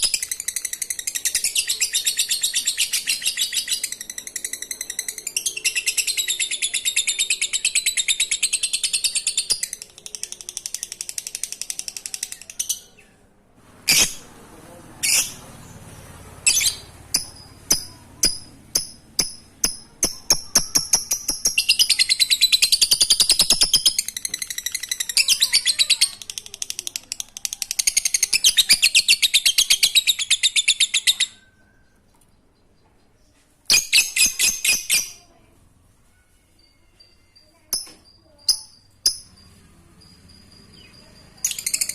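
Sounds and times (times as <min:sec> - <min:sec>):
bird chirping fast chatter: 0:00.0 - 0:35.6, 0:36.6 - 0:41.9.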